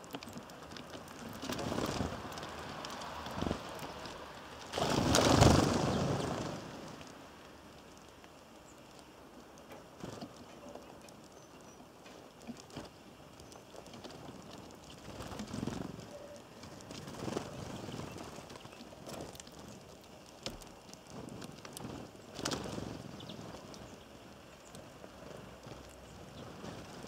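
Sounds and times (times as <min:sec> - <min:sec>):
birds pecking on feeder: 0:00.0 - 0:27.0.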